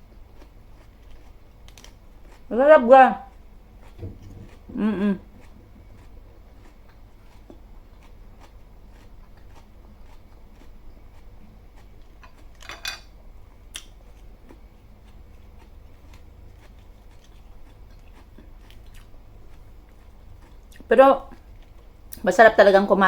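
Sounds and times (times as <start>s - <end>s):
food being chewed: 0.0s - 2.5s, 3.2s - 22.3s
low steady hum: 0.0s - 23.0s.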